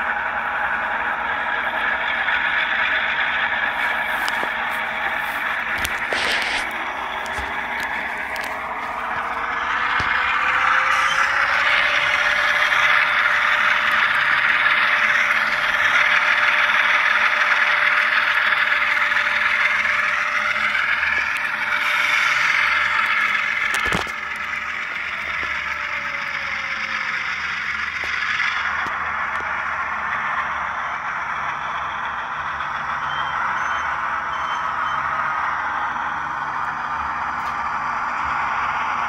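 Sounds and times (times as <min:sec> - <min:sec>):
model locomotive engine sound from speaker: 0:00.0 - 0:39.0.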